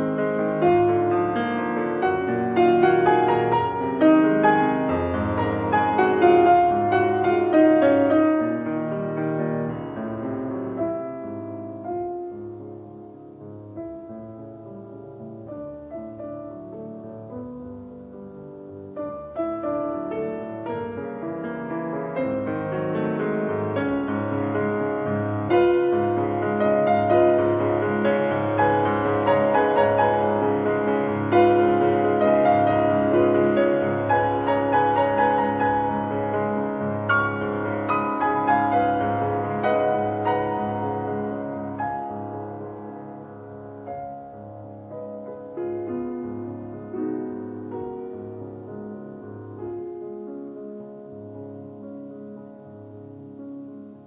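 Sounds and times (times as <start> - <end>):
piano music: 0.0 - 54.0.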